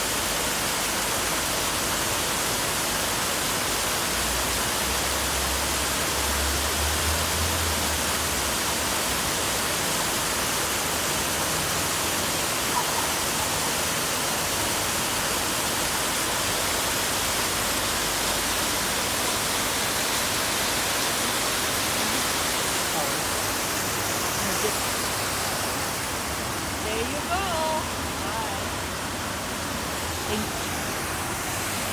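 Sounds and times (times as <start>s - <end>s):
fountain water jets splashing: 0.0s - 31.9s.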